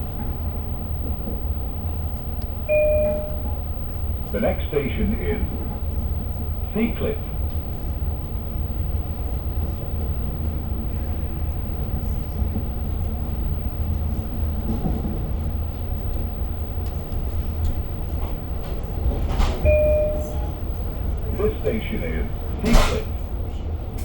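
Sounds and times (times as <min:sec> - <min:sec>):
train rumbling along rails: 0:00.0 - 0:24.0.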